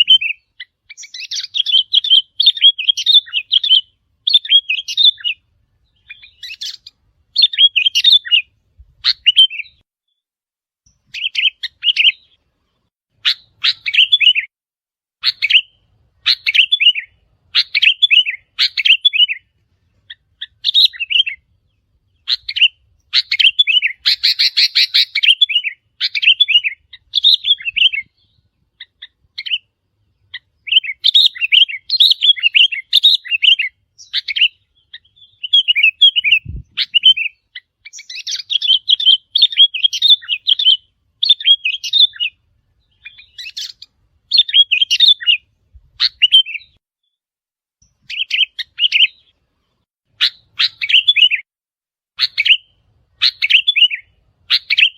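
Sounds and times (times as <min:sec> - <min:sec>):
bulbuls chirping: 0:00.0 - 0:09.8, 0:10.9 - 0:14.5, 0:15.2 - 0:46.8, 0:47.8 - 0:51.4, 0:52.2 - 0:54.9.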